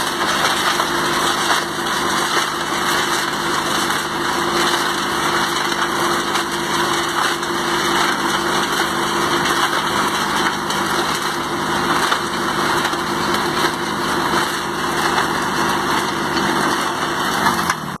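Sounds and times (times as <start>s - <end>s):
concrete mixer engine running: 0.0s - 18.0s.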